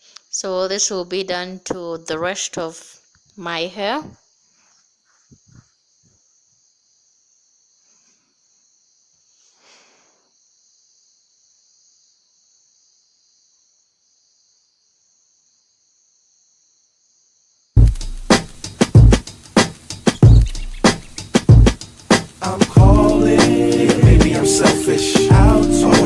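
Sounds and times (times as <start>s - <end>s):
faint high-pitched hiss: 0.0s - 26.0s.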